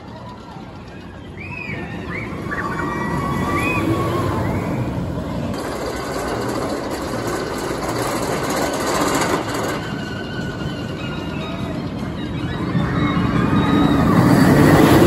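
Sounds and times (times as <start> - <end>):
roller coaster rumbling: 0.0 - 15.0.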